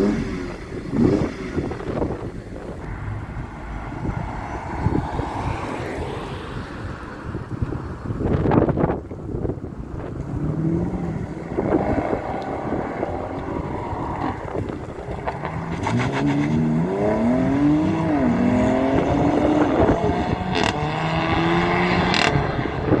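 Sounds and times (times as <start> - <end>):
car engine accelerating hard: 0.0 - 7.7, 10.2 - 23.0
wind buffeting microphone: 0.0 - 23.0.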